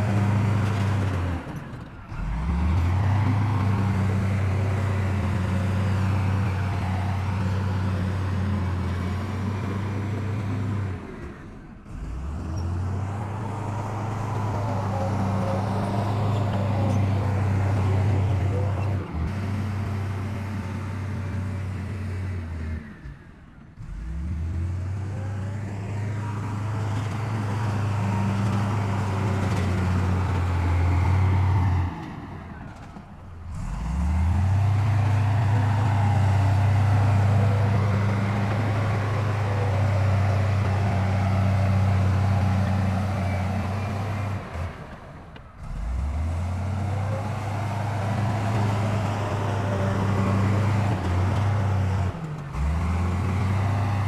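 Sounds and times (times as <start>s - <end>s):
heavy diesel engine revving: 0.0s - 23.2s, 23.8s - 54.0s.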